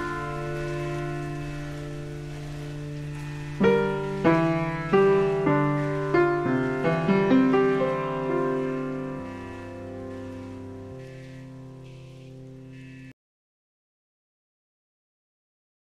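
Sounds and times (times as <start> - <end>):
gentle piano music: 0.0 - 13.1.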